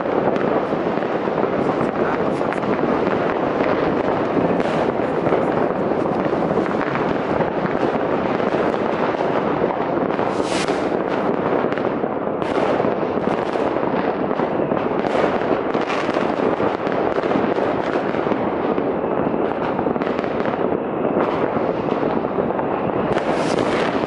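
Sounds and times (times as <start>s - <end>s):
fireworks and firecrackers crackling: 0.0s - 24.0s.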